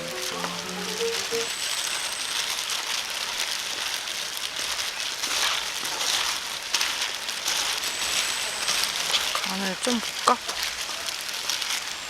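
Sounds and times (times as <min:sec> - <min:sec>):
steady hiss: 0:00.0 - 0:12.0
wood fire crackling: 0:00.0 - 0:12.0.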